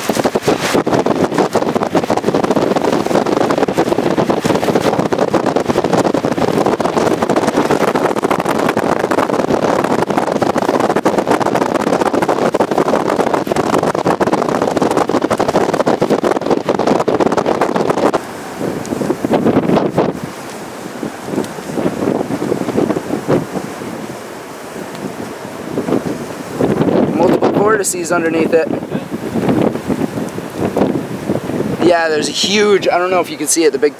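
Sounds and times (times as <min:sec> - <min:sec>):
rain pattering on car body: 0:00.0 - 0:33.9
wind and rain rushing: 0:00.0 - 0:33.9.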